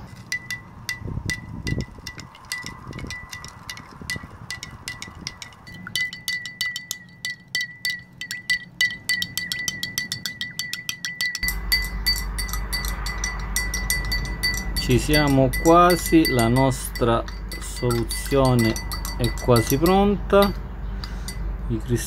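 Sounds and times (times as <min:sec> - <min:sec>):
teaspoon clinking against glass: 0:00.3 - 0:22.0.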